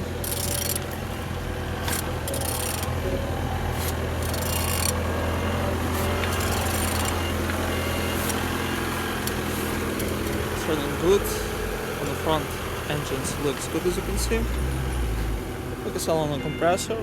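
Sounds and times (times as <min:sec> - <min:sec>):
engine turned over by hand: 0:00.0 - 0:15.5.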